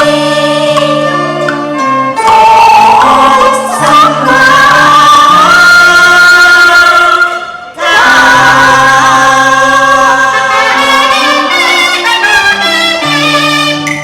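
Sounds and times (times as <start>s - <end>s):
person singing gliding notes: 0.0s - 12.1s
group voices singing harmony: 0.0s - 14.0s
instrumental accompaniment: 0.0s - 14.0s.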